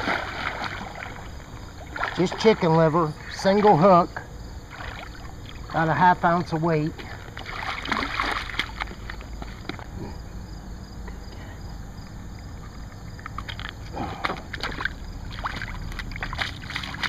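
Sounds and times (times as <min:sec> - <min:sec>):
river water: 0:00.0 - 0:17.0
wind: 0:00.0 - 0:17.0.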